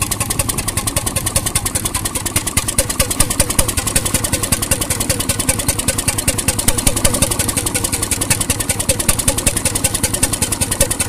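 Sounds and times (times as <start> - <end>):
marine engine idling: 0.0 - 11.0.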